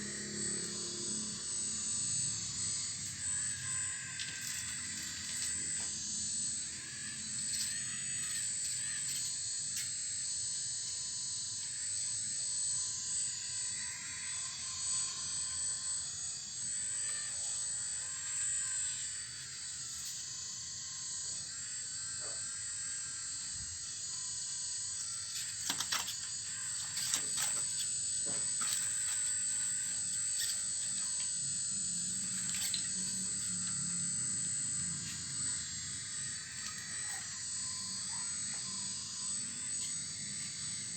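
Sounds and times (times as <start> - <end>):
electric motors whining: 0.0 - 40.9.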